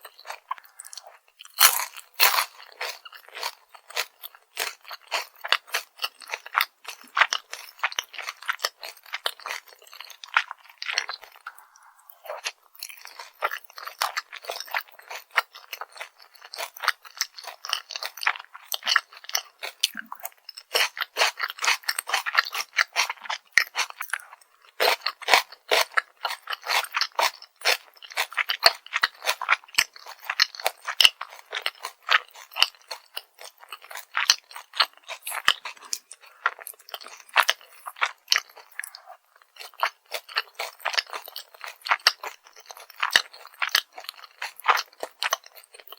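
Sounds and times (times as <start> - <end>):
chewing crispy fried food: 0.0 - 45.9.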